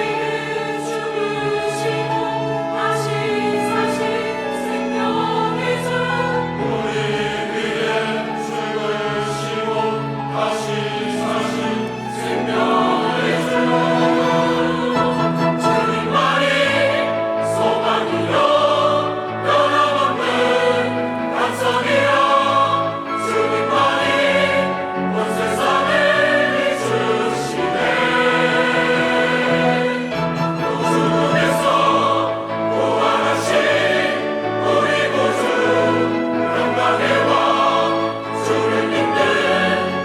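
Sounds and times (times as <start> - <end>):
church choir singing: 0.0 - 40.0.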